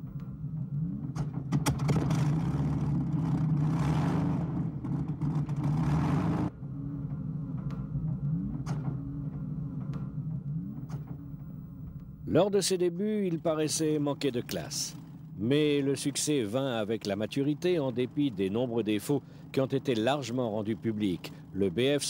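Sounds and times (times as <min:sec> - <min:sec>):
piston aircraft engine running: 0:00.0 - 0:22.0.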